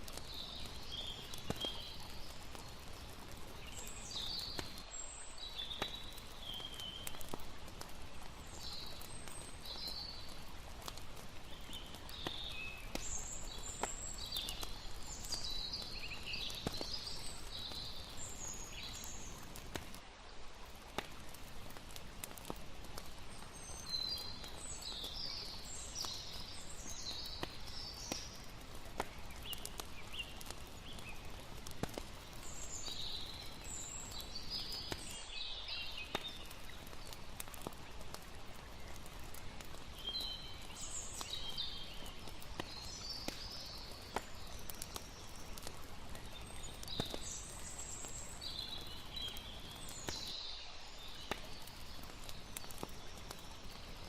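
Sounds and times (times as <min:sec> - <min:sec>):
flowing water: 0:00.0 - 0:54.0
wood fire crackling: 0:00.0 - 0:54.0.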